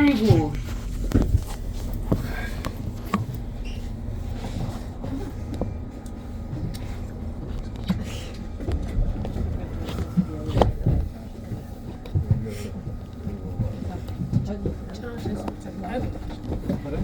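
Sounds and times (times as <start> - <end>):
bus cabin low rumble: 0.0 - 17.0.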